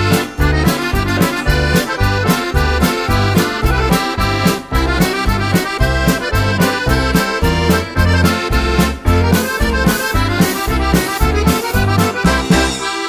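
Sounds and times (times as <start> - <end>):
accordion playing a polka: 0.0 - 13.0.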